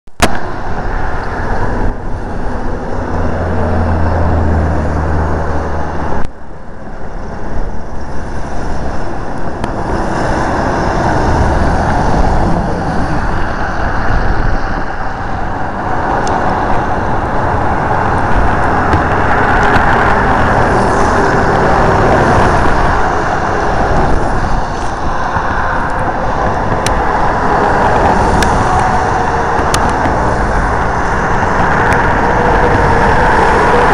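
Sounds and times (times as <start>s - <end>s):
road traffic noise: 0.1s - 33.9s
passing vehicle engine drone: 0.2s - 33.9s.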